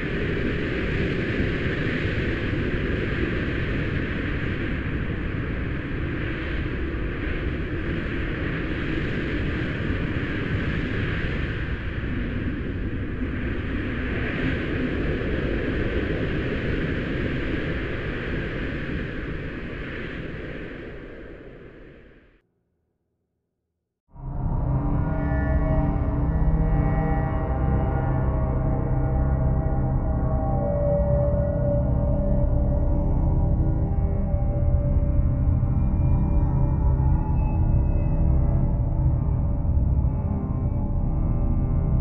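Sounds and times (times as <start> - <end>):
low rumble of wind: 0.0 - 22.4, 24.1 - 42.0.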